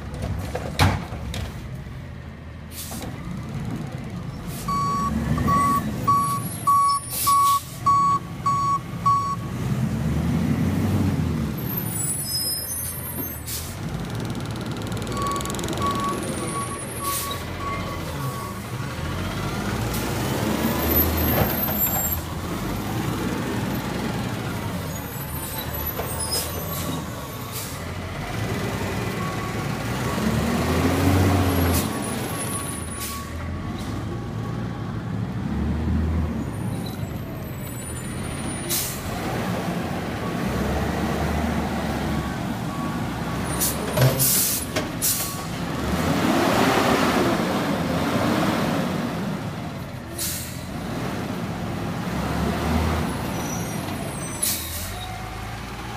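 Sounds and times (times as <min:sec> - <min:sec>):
diesel engine revving: 0:02.2 - 0:55.9.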